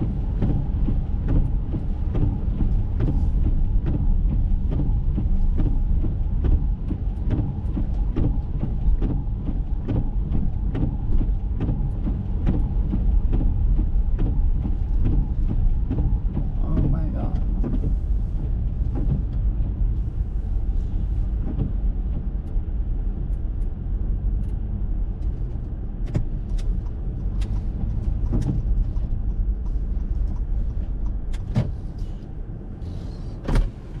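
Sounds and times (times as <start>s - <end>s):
low rumble of engine and tyres: 0.0s - 34.0s.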